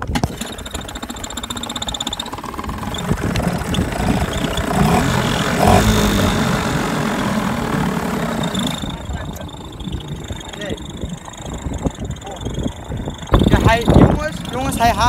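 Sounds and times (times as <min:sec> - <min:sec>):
outboard motor running unevenly: 0:00.0 - 0:15.0.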